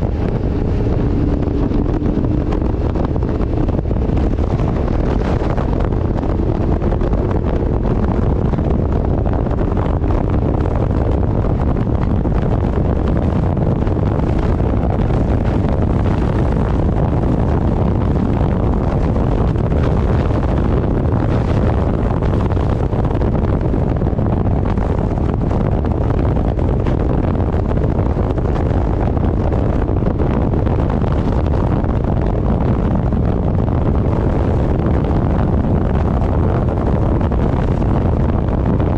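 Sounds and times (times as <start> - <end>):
low rush of motorcycle ride: 0.0 - 38.9
wind buffeting microphone: 0.0 - 38.9.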